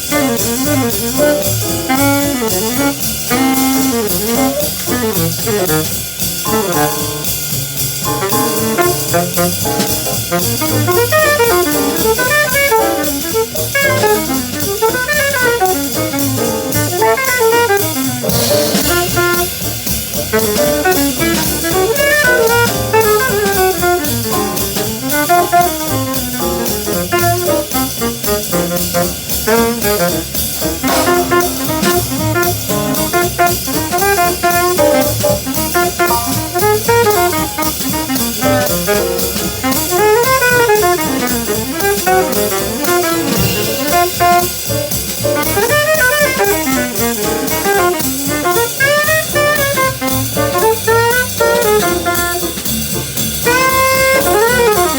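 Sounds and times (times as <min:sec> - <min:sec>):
drum kit: 0:00.0 - 0:54.9
saxophone and brass melody: 0:00.0 - 0:54.9.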